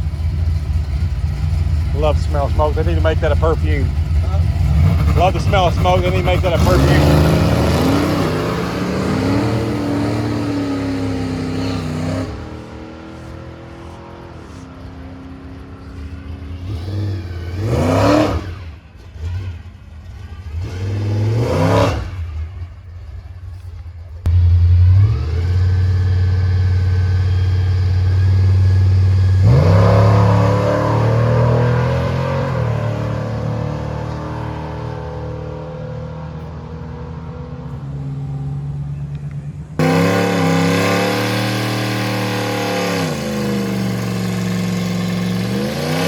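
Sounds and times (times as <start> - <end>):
racing engine revving: 0.0 - 22.5, 24.2 - 46.0.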